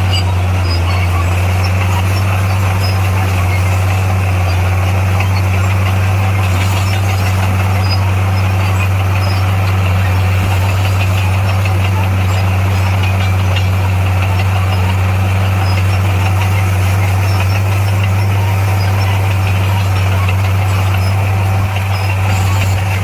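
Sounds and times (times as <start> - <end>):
diesel machine engine humming: 0.0 - 23.0.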